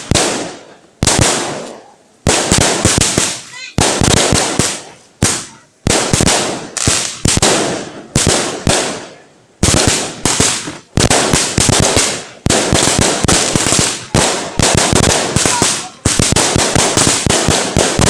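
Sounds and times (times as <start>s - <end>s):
fireworks crackling bursts: 0.0s - 18.0s.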